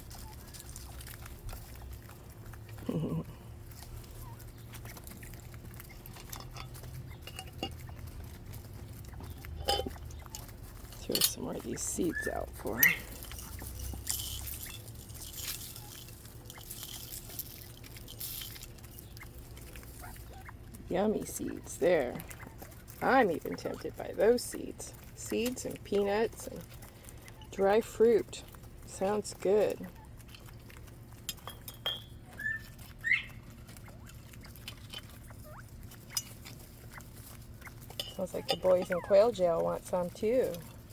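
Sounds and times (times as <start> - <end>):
quail pecking at seed: 0.0 - 40.9.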